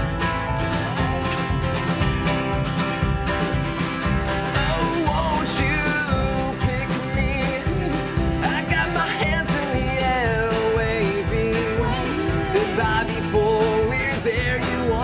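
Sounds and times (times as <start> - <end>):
live band playing rock: 0.0 - 15.0.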